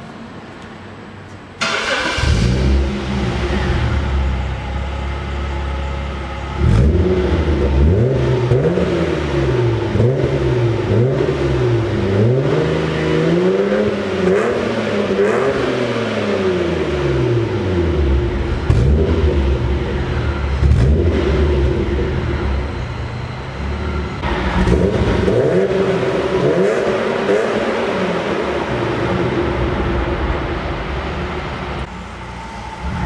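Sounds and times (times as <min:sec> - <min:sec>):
car engine idling: 0:01.1 - 0:12.1, 0:16.4 - 0:33.0
car engine starting: 0:01.5 - 0:33.0.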